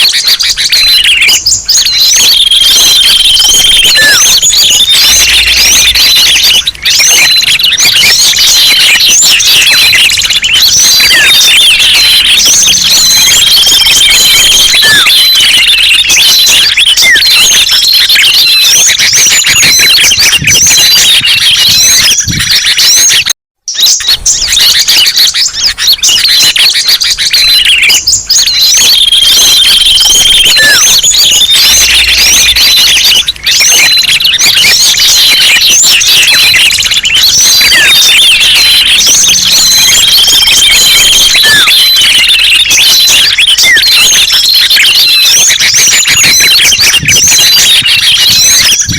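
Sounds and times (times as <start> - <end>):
songbirds chirping and twittering: 0.0 - 48.9.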